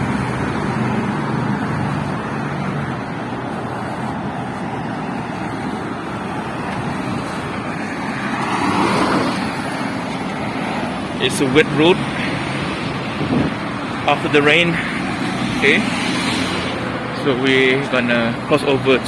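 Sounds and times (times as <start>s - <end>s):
traffic on wet road: 0.0s - 19.0s
vehicle passing close: 0.0s - 19.0s.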